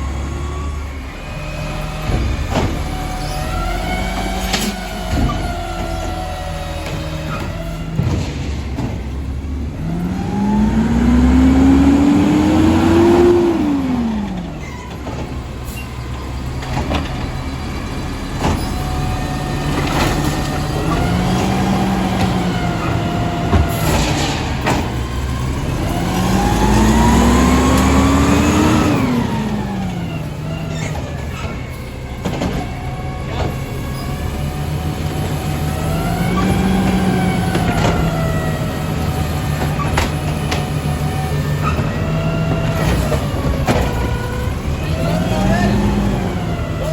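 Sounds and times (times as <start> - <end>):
diesel truck engine revving: 0.0 - 46.9.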